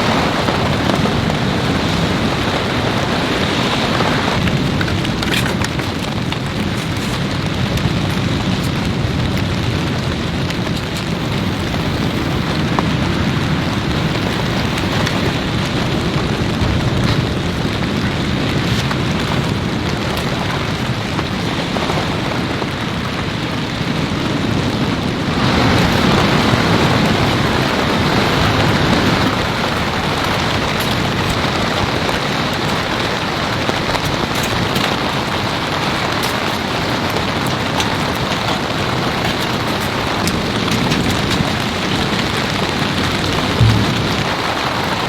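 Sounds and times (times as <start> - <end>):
heavy rain falling: 0.0 - 45.0
raindrop ticks: 4.4 - 21.4, 25.4 - 44.9.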